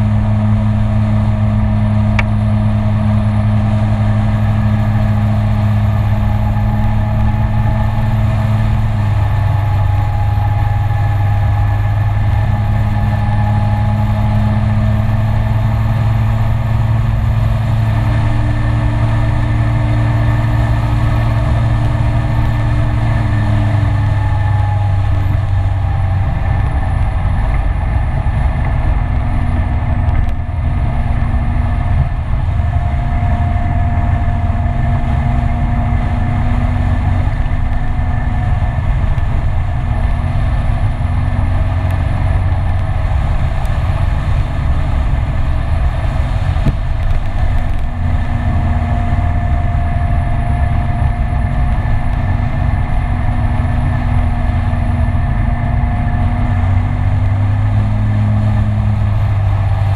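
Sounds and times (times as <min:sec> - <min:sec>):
road and wind rumble: 0:00.0 - 0:59.9
scooter engine humming: 0:00.0 - 0:59.9.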